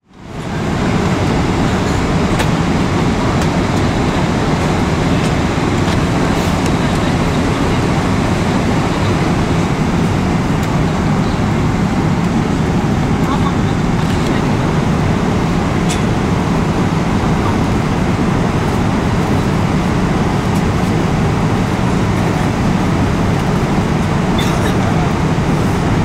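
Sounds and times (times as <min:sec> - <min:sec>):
aircraft cabin engine drone: 0:00.0 - 0:26.0.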